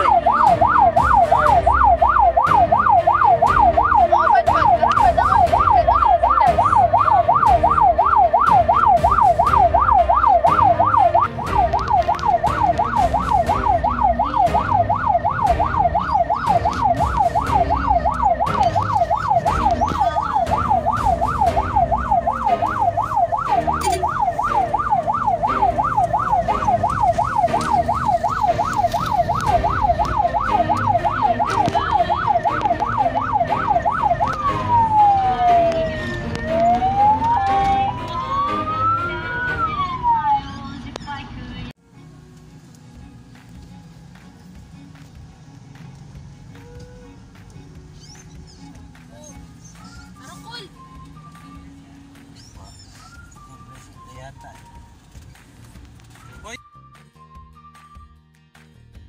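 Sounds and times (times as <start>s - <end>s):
ambulance siren yelping: 0.0s - 41.2s, 46.5s - 57.9s
low rumble of engine and road: 0.0s - 57.8s.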